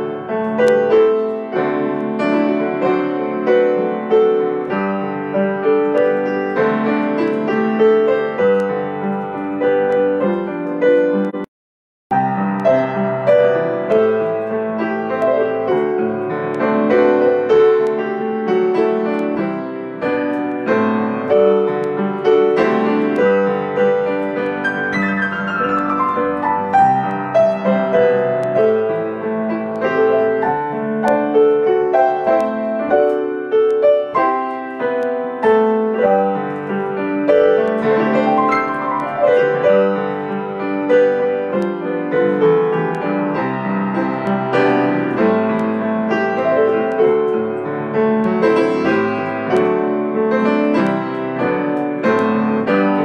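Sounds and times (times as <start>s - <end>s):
solo piano playing: 0.0s - 11.5s, 12.1s - 53.0s.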